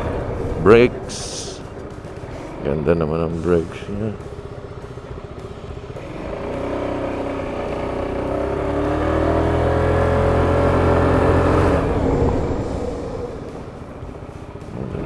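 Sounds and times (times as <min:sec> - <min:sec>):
scooter engine accelerating: 0:00.0 - 0:15.0.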